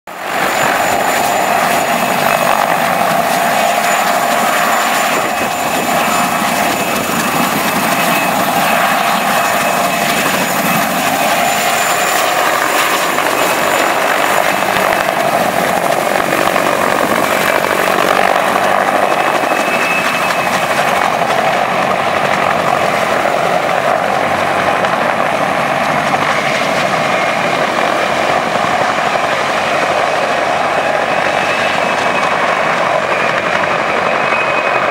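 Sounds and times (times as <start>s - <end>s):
helicopter engine whine: 0.1s - 34.9s
helicopter rotor noise: 0.1s - 34.9s.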